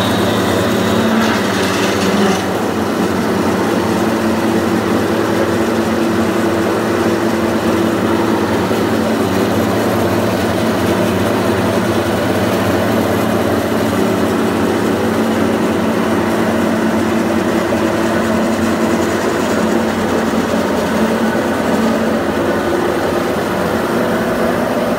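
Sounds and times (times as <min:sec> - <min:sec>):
drilling machine drone: 0:00.0 - 0:24.9.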